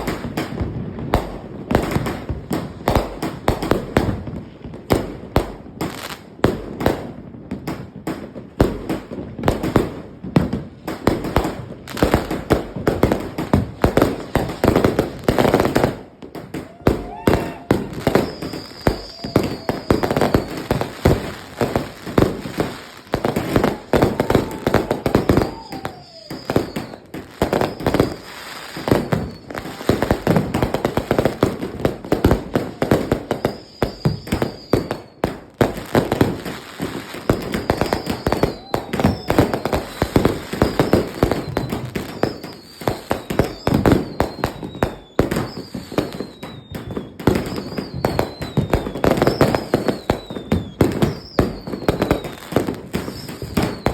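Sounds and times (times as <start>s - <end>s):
fireworks bangs and crackles: 0.0s - 53.9s
falling firework whistles: 10.4s - 53.9s.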